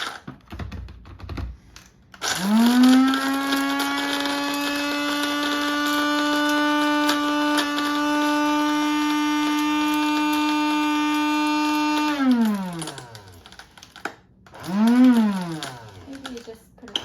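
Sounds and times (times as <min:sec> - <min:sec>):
coffee grinder motor: 0:02.1 - 0:17.0.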